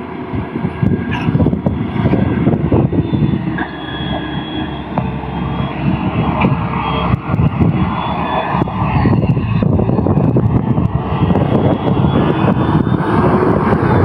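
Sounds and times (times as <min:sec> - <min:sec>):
truck diesel engine labouring: 0:00.0 - 0:14.0.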